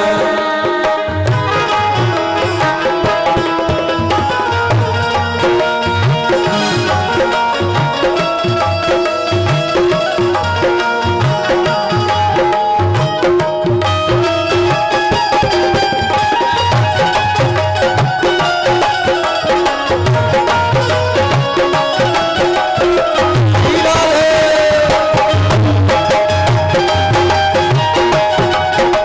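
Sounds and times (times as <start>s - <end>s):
sustained melody: 0.0s - 29.0s
tabla rhythm: 0.0s - 29.0s.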